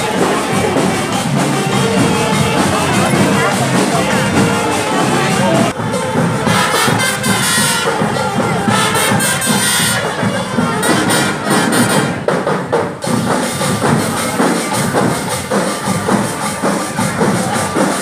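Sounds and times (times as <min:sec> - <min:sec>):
crowd noise: 0:00.0 - 0:18.0
drums playing march beat: 0:00.0 - 0:18.0
wind instruments: 0:00.0 - 0:18.0.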